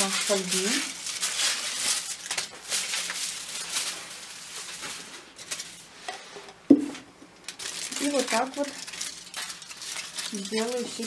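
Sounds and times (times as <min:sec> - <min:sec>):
aluminium foil crinkling: 0:00.0 - 0:05.9, 0:07.4 - 0:11.0.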